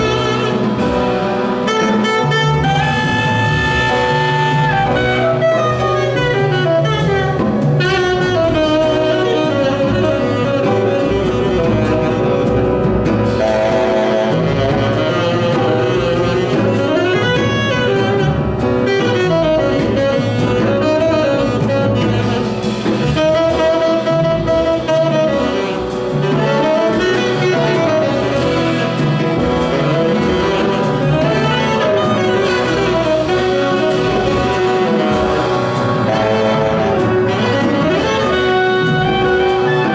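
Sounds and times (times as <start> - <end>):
big band rhythm section: 0.0 - 39.9
double bass: 0.0 - 39.9
tenor saxophone jazz solo: 0.0 - 39.9.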